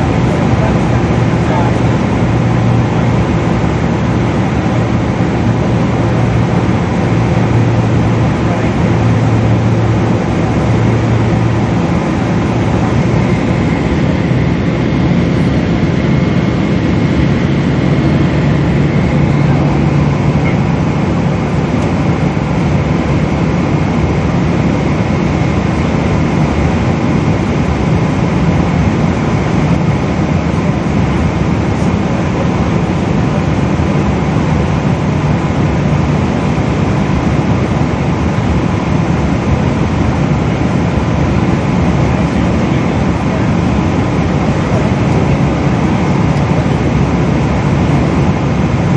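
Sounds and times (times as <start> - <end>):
jet engine roar in cabin: 0.0 - 48.9
low engine hum: 0.0 - 48.9.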